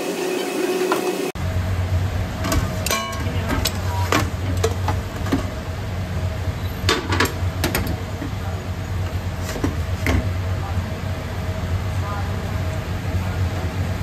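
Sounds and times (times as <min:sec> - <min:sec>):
oven low hum: 0:00.0 - 0:14.0.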